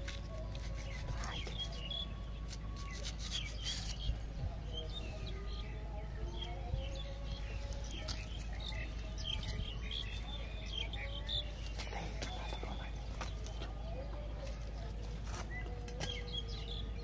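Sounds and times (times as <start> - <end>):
birds chirping: 0.0 - 17.0
low background noise: 0.0 - 17.0.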